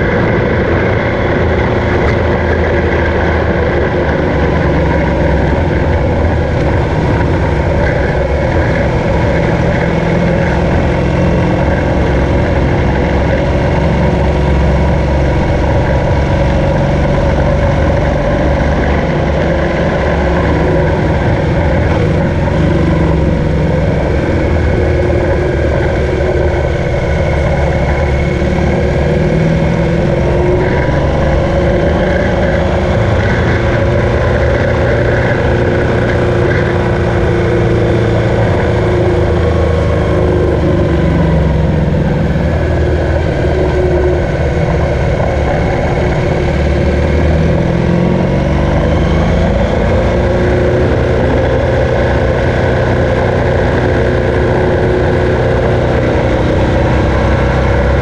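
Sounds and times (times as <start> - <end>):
motorcycle engine running: 0.0 - 58.0
wind rush on microphone: 0.0 - 58.0.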